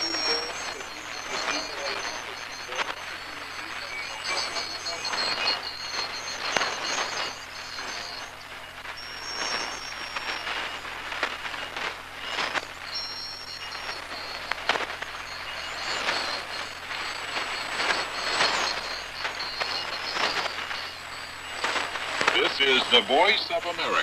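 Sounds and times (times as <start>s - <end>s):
high whistling tones: 0.0s - 24.0s
radio static hiss: 0.0s - 24.0s
sharp static crashes: 0.0s - 24.0s.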